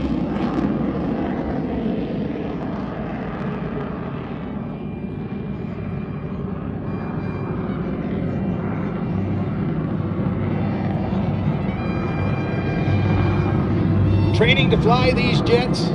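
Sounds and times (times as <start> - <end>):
jet engine rumble: 0.0 - 15.9.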